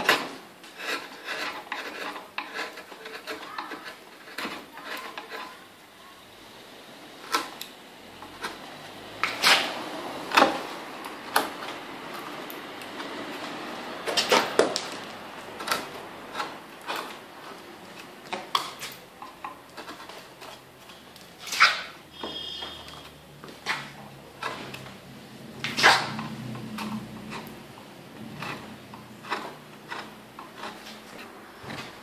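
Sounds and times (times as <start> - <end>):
carving tools scraping wood: 0.0 - 32.0.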